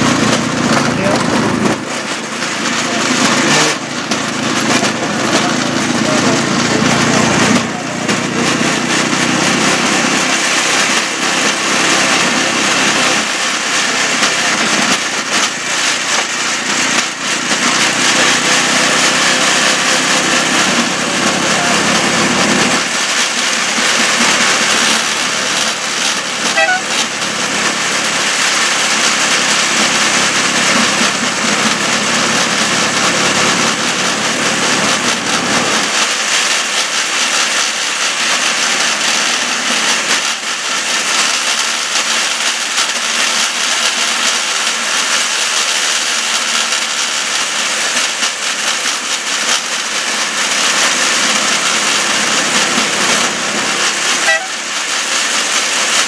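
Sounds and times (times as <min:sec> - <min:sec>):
small engine: 0:00.0 - 0:56.0
wheels on rails: 0:00.0 - 0:56.0.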